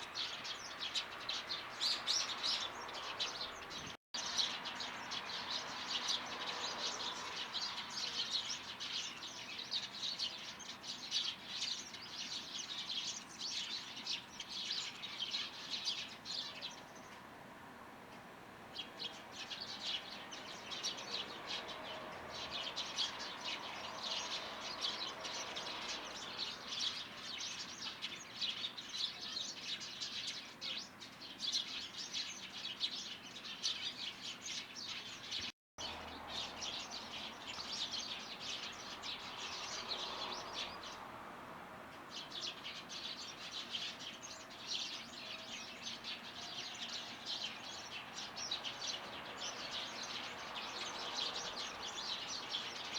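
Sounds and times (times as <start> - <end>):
small birds chirping: 0.0 - 17.3, 18.8 - 41.3, 41.9 - 52.9.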